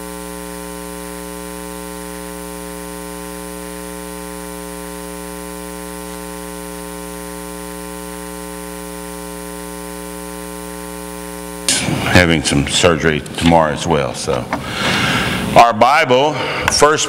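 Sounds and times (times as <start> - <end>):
electrical mains hum and buzz: 0.0 - 17.0.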